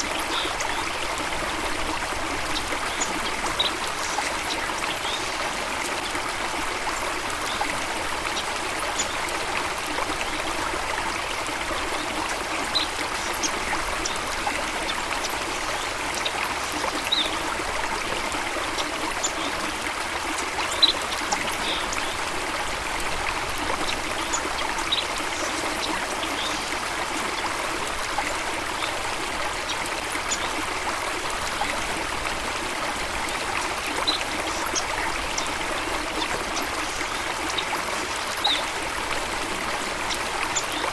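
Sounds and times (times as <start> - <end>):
stream of water rushing: 0.0 - 40.9.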